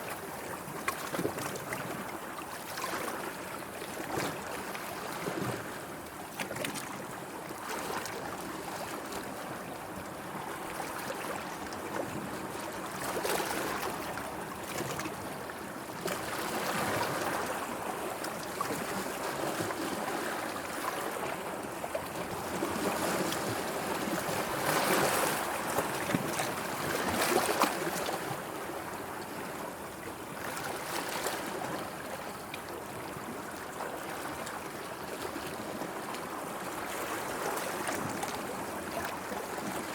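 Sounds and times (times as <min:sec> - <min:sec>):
gentle sea waves lapping: 0:00.0 - 0:39.9.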